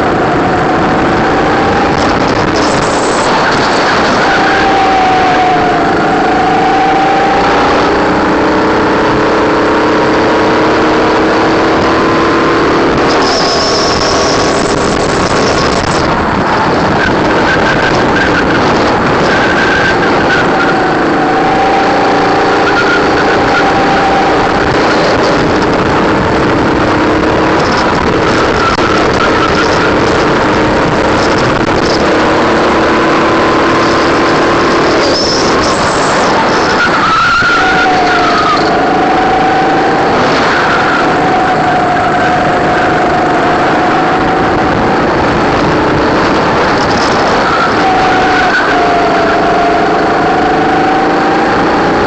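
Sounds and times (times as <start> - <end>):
rushing noise: 0.0 - 9.2, 9.8 - 52.0
kart engine at racing speed: 0.0 - 52.0.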